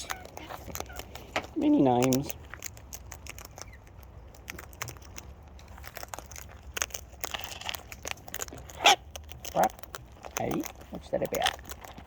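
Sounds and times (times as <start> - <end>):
birds pecking and crunching seed: 0.0 - 12.0.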